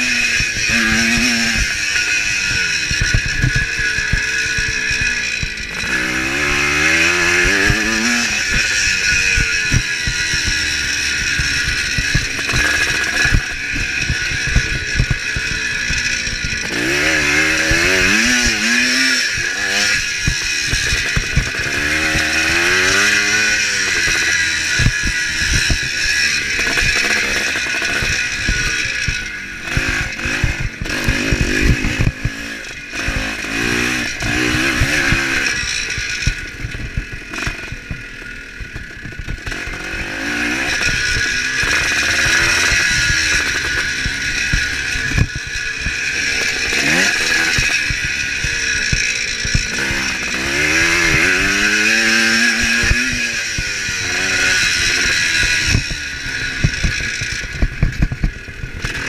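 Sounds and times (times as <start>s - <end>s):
two-stroke engine revving hard: 0.0s - 59.0s.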